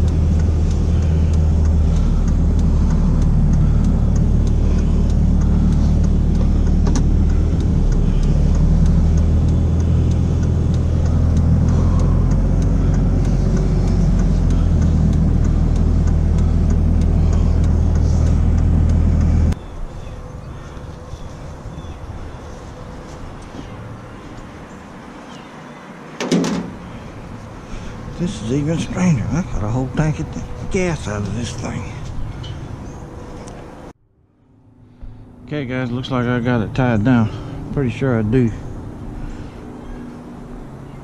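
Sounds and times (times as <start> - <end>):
truck engine humming: 0.0 - 41.0.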